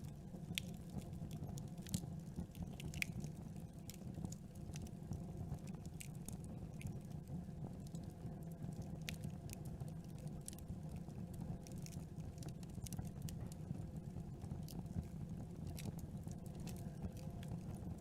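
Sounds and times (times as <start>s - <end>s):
burning wood crackling and popping: 0.0s - 18.0s
campfire flames rumbling: 0.0s - 18.0s.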